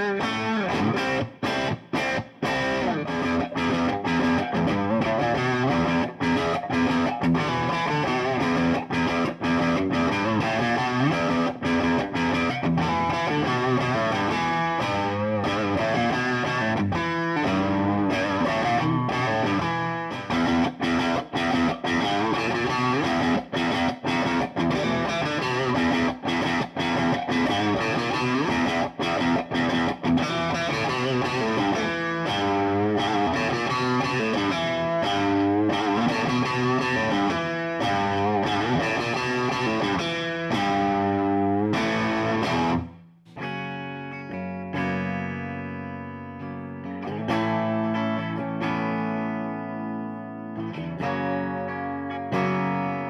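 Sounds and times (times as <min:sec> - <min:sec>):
electric guitar chords and riffs: 0:00.0 - 0:53.0.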